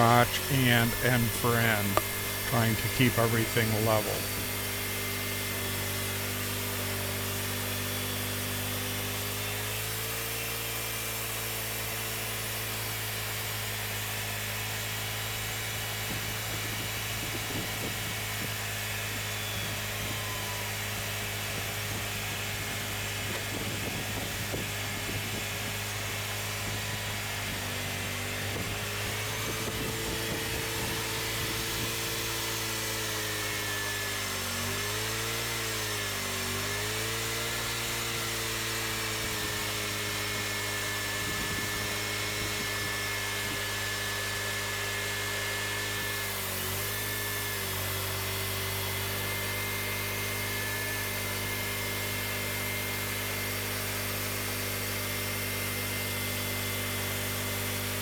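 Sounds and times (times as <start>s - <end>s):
bandsaw mill sawing log: 0.0s - 58.0s.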